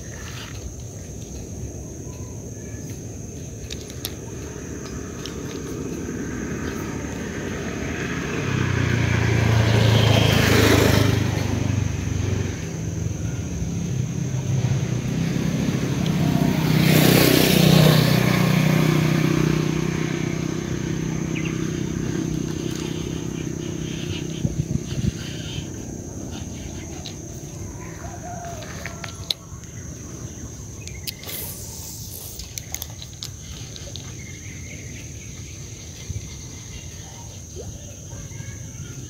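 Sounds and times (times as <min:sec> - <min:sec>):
small engine passing by: 0:00.0 - 0:39.0.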